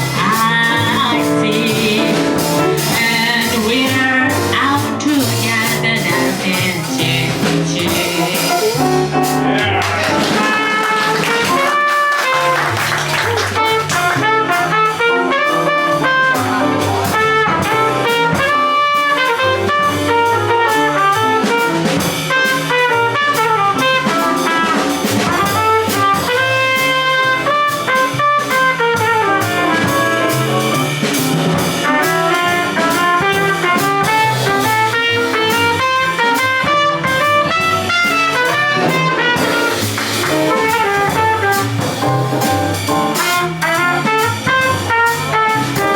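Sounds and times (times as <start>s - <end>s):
drums with cymbals: 0.0s - 12.8s, 13.5s - 45.9s
bass: 0.0s - 45.9s
horn melody: 0.0s - 45.9s.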